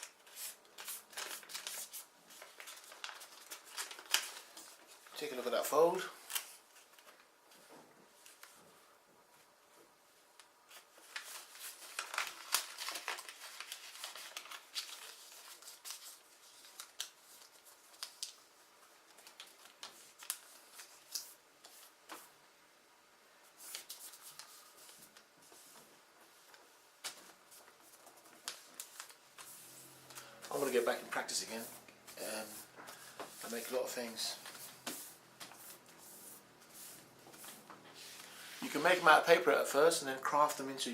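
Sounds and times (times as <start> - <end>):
paper rustling and crackling: 0.0 - 8.7, 10.4 - 22.4, 23.4 - 39.5.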